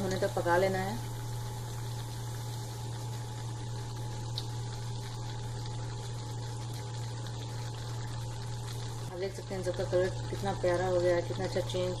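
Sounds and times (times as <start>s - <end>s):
dough sizzling in hot oil: 0.0s - 12.0s.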